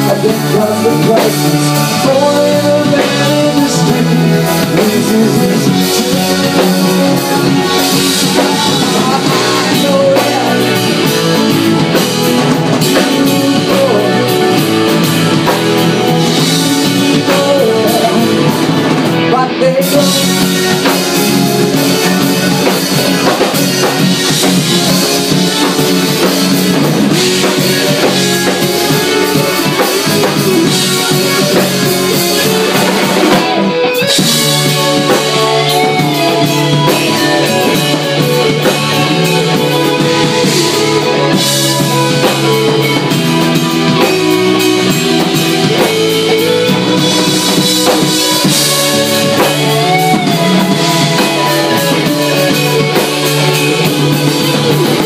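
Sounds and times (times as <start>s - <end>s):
bass guitar: 0.0s - 55.0s
drum kit: 0.0s - 55.0s
electric guitar lead lines: 0.0s - 55.0s.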